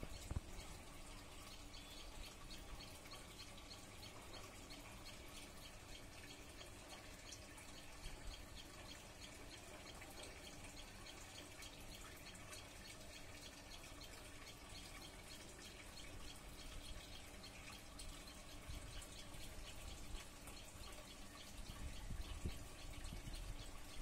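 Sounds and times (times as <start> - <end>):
faint outdoor ambience: 0.0 - 24.0
soft irregular ticks: 0.0 - 24.0.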